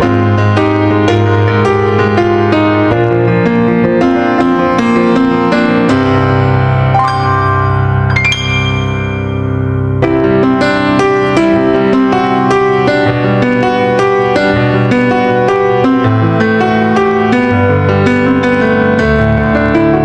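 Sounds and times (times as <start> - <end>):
instrumental piano music: 0.0 - 20.0.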